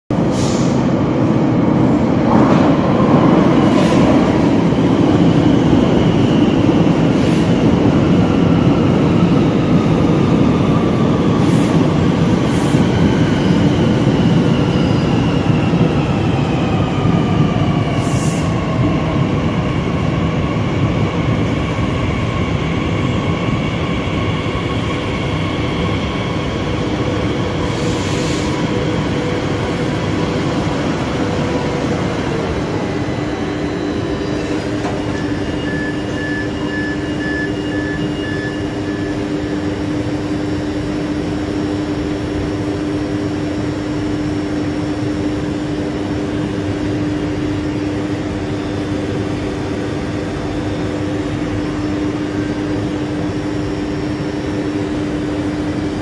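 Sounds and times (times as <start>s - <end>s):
train wheels rumbling on rail: 0.1s - 56.0s.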